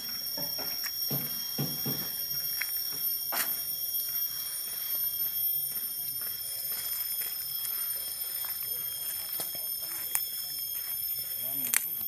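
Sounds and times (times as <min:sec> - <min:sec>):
footsteps crunching on leaf litter: 0:00.0 - 0:12.0
insect chorus: 0:00.0 - 0:12.0.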